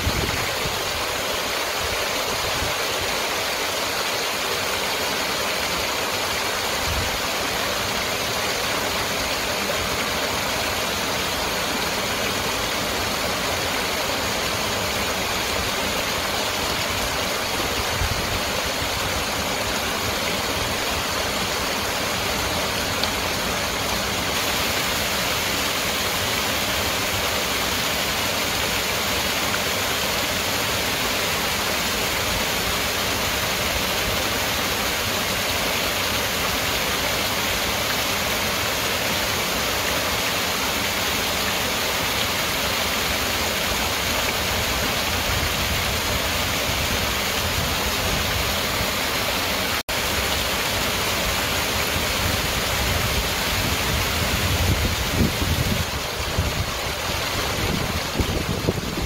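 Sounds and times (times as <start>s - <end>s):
waterfall splashing over stones: 0.0s - 59.0s.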